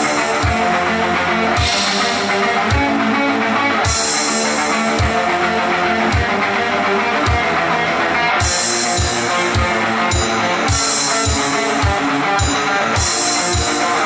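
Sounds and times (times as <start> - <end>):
electric guitar playing: 0.0 - 14.0
rock drum beat: 0.0 - 14.0.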